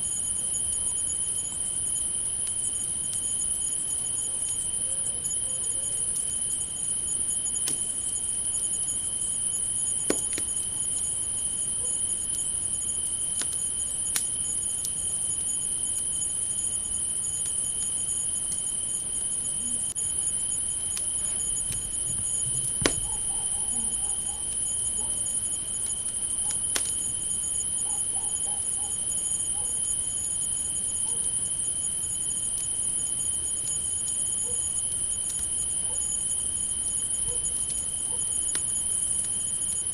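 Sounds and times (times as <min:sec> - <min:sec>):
crickets chirring: 0:00.0 - 0:39.9
campfire crackling: 0:00.1 - 0:05.4, 0:06.1 - 0:23.4, 0:24.5 - 0:27.8, 0:30.2 - 0:39.9.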